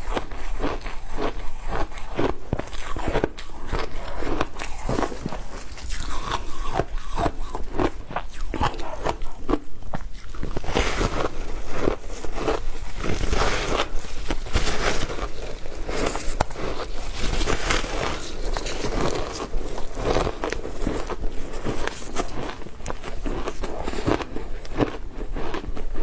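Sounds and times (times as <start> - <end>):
chewing crunchy ice: 0.0 - 26.0.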